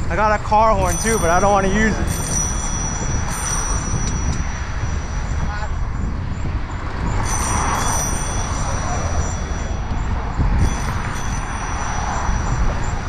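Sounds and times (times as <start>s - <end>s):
pedestrians' voices: 0.0s - 13.0s
road traffic: 0.0s - 13.0s
wind rumble: 0.0s - 13.0s.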